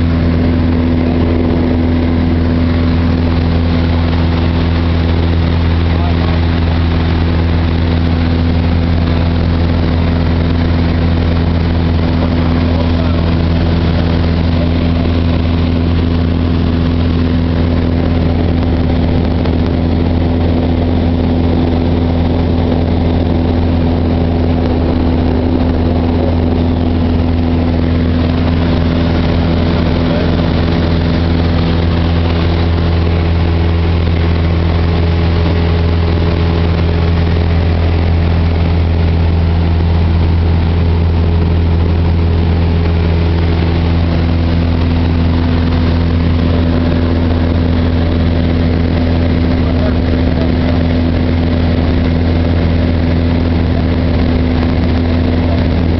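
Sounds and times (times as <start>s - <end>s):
airplane engine droning: 0.0s - 55.9s.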